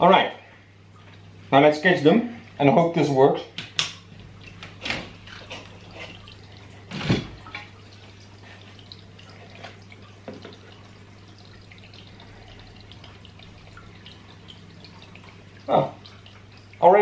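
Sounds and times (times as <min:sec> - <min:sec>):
water dripping and sloshing: 0:00.0 - 0:17.0.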